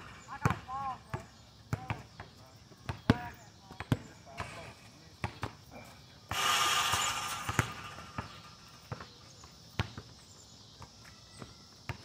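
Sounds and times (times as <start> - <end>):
basketball bouncing on asphalt: 0.0 - 5.6, 6.2 - 12.0.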